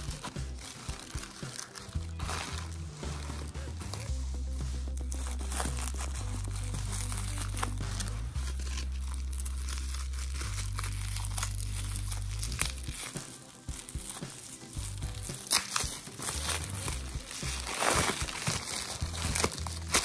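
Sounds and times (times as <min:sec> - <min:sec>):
background music with deep bass: 0:00.0 - 0:20.0
packaging crinkling and tearing: 0:00.0 - 0:20.0.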